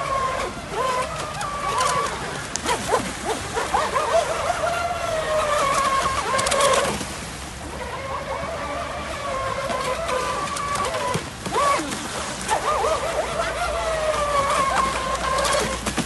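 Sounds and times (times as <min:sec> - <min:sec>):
hull hissing through water: 0:00.0 - 0:16.0
model boat motor whining: 0:00.0 - 0:16.0
splashing spray: 0:00.1 - 0:16.0.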